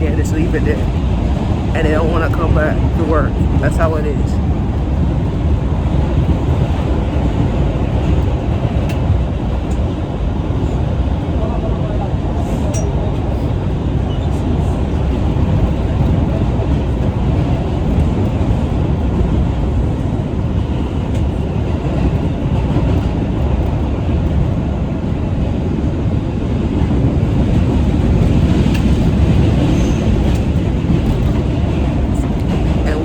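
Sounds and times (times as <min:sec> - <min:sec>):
subway train wheels rumbling on rails: 0:00.0 - 0:33.0.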